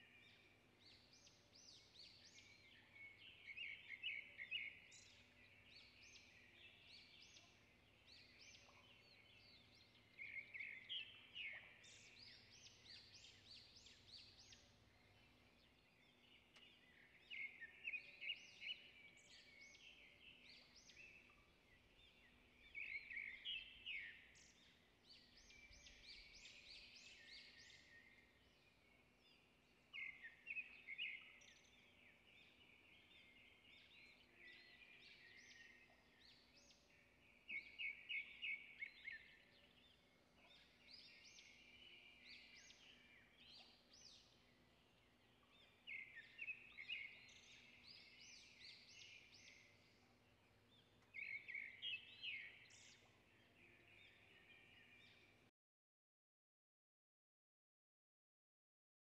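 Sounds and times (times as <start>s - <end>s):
birds chirping and twittering: 0.0s - 55.5s.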